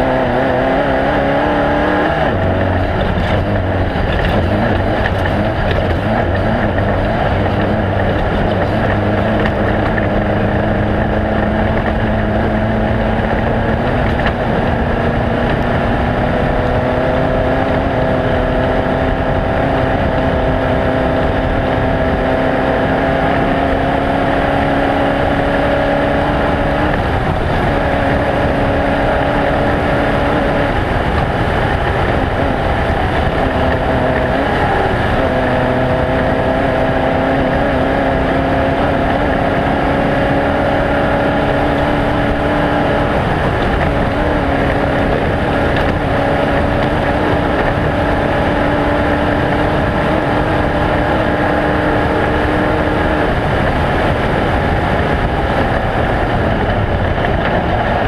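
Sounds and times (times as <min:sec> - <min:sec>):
race vehicle engine running hard: 0:00.0 - 0:58.0
wind and terrain noise: 0:00.0 - 0:58.0.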